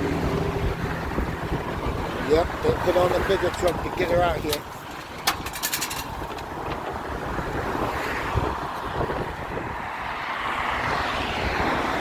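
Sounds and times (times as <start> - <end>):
vehicle rumble: 0.0 - 12.0
wind on microphone: 0.0 - 12.0.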